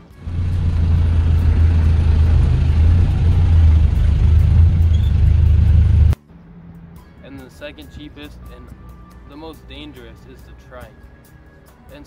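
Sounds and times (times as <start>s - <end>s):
vehicle engine low drone: 0.0s - 10.4s
road noise: 0.0s - 12.0s.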